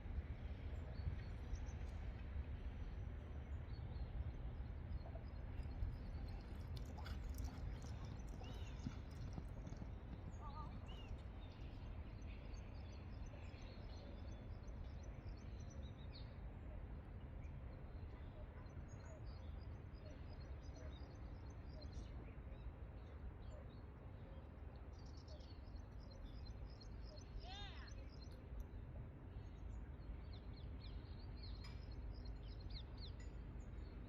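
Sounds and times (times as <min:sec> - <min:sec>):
low outdoor background noise: 0:00.0 - 0:34.0.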